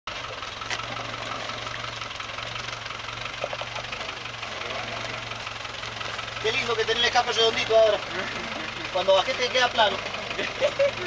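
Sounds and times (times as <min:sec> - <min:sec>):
diesel engine running at low revs: 0:00.1 - 0:11.0.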